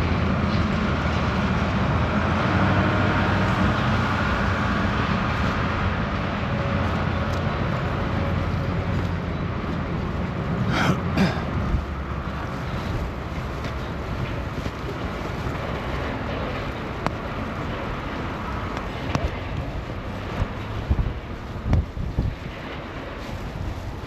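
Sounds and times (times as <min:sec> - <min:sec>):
vehicle engine rumbling past: 0:00.0 - 0:24.0.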